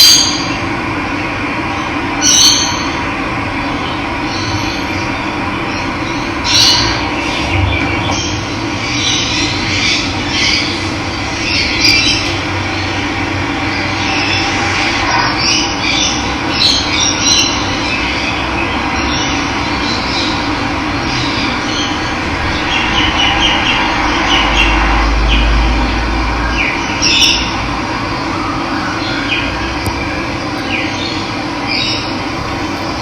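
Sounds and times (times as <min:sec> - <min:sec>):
birds chirping: 0:03.6 - 0:33.0.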